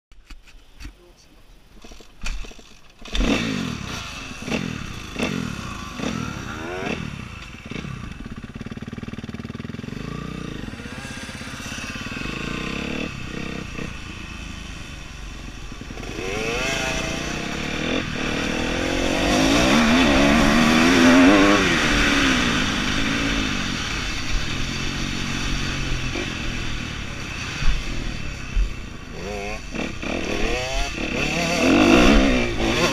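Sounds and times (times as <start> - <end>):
motocross bike engine revving: 1.8 - 32.9.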